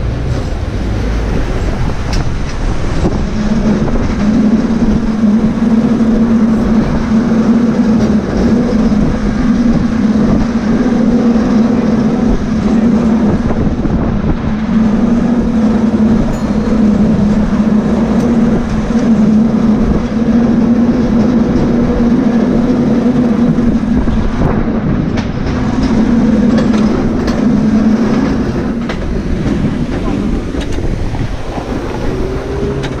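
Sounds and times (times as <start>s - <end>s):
cable car humming and rattling: 0.0s - 33.0s.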